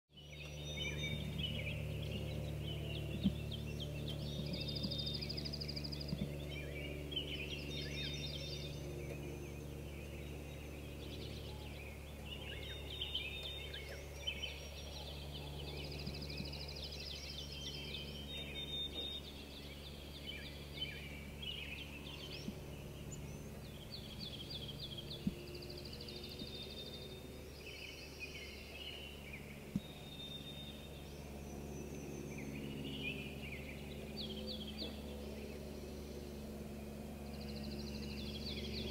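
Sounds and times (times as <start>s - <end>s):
songbirds singing: 0.1s - 38.9s
steady low hum: 0.1s - 38.9s.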